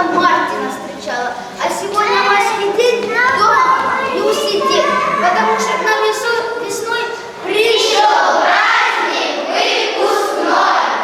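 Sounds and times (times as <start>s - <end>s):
children's voices overlapping: 0.0s - 11.0s.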